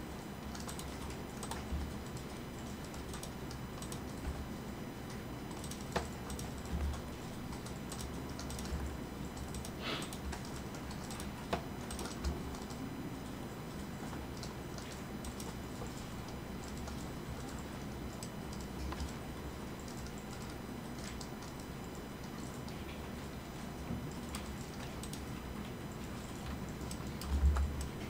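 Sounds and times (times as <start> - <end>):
keyboard and mouse clicks: 0.4 - 4.4, 5.0 - 12.8, 14.0 - 19.2, 19.8 - 23.0, 24.1 - 28.0.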